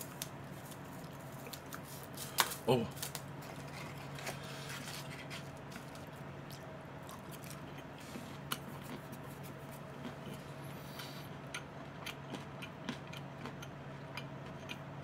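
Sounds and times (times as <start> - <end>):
chewing crispy fried chicken: 0.0 - 15.0
steady low hum: 0.0 - 15.0.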